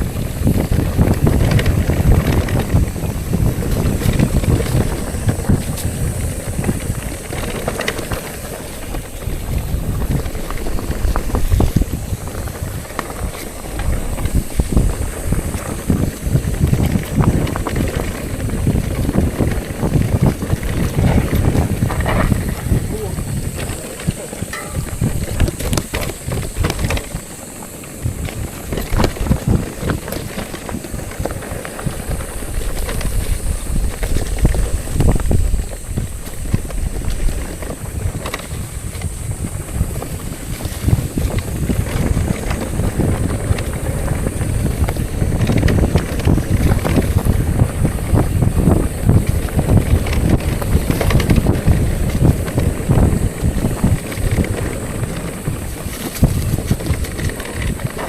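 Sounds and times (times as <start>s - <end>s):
rattly tyre and road noise: 0.0s - 58.0s
wind buffeting microphone: 0.0s - 58.0s.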